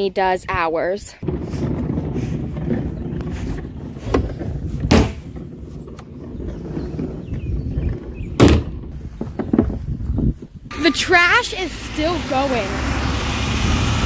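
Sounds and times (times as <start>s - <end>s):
trash can wheels rumbling: 1.2s - 14.0s.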